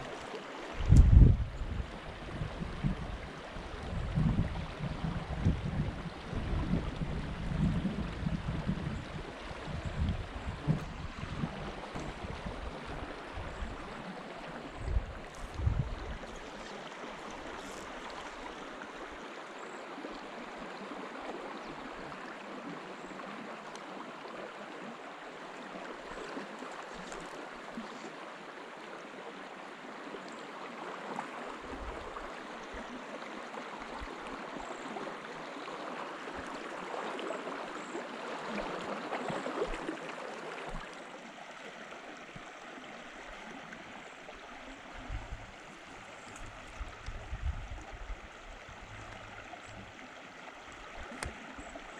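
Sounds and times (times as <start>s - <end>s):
river water babbling: 0.0s - 51.9s.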